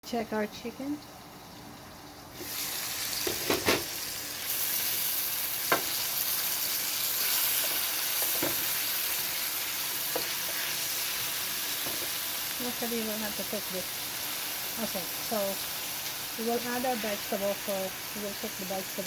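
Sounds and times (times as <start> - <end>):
chicken sizzling in a pan: 1.4 - 19.0.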